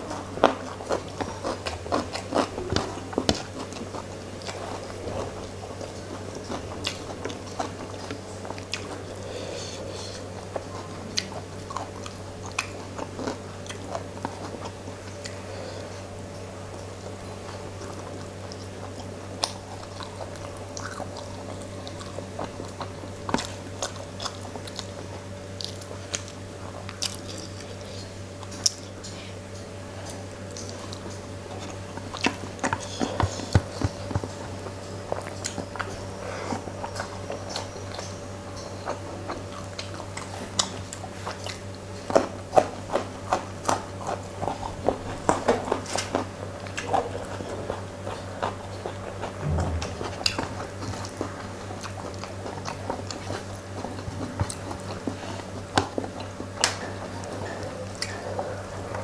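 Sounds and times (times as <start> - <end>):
person chewing food wetly: 0.0 - 59.0
steady low hum: 0.0 - 59.0.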